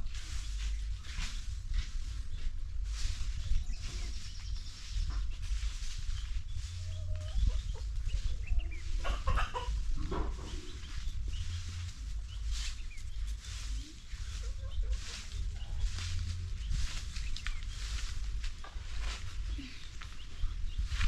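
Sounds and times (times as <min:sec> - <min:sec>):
chickens clucking: 0:00.0 - 0:21.0
steady low rumble: 0:00.0 - 0:21.0.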